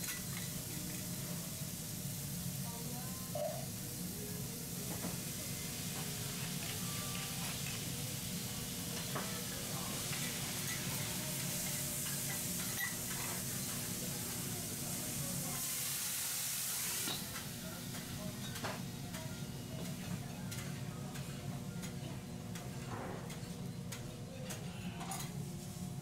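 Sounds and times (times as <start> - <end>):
food sizzling on griddle: 0.0 - 21.8.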